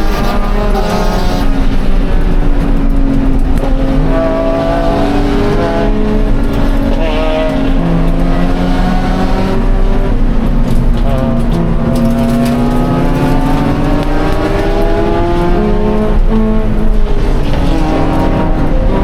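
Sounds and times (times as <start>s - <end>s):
car engine running: 0.0s - 19.0s
road noise: 0.0s - 19.0s.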